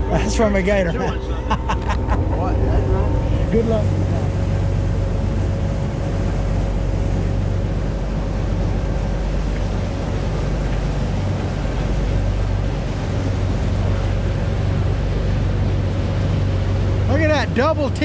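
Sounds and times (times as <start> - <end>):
boat engines droning: 0.0 - 18.0
water wash: 0.0 - 18.0.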